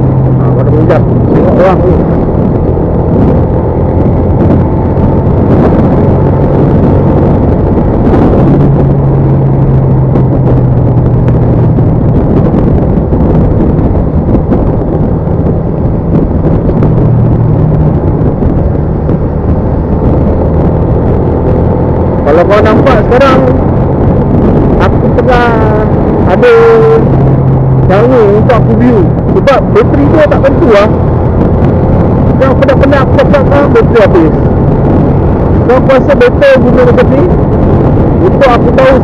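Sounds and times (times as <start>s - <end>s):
motorcycle engine hum: 0.0s - 39.0s
wind noise on microphone: 0.0s - 39.0s.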